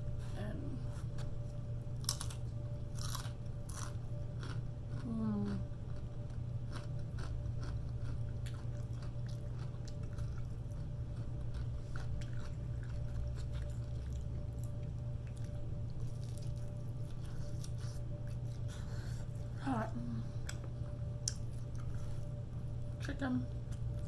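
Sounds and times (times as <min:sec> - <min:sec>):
low hum: 0:00.0 - 0:24.0
person chewing food: 0:02.0 - 0:05.2, 0:05.8 - 0:19.6, 0:20.4 - 0:23.1.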